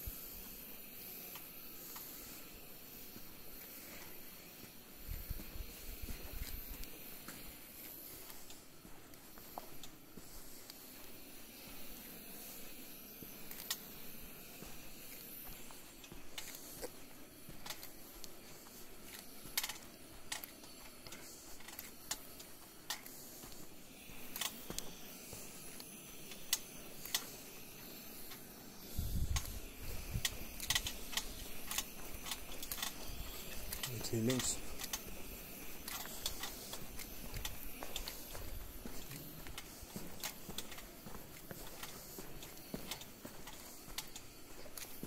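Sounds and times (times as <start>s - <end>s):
steady hiss: 0.0s - 45.0s
footsteps crunching on gritty floor: 1.6s - 45.0s.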